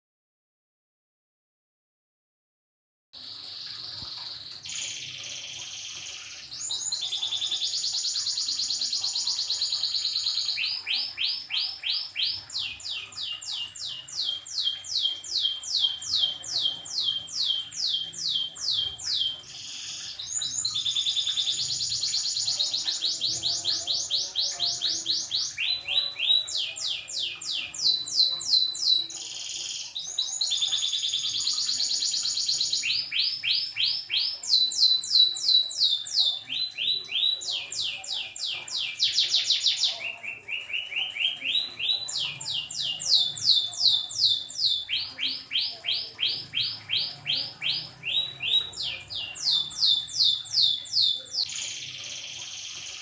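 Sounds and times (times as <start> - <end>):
canary singing: 3.2 - 53.0.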